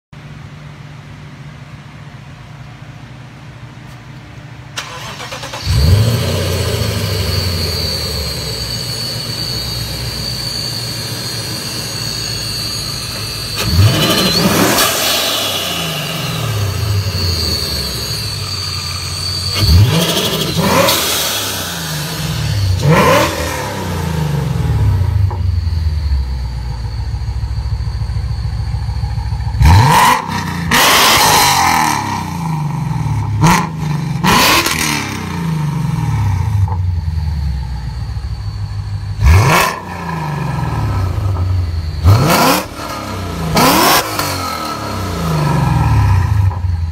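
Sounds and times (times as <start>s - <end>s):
car engine idling and revving: 0.1s - 46.9s.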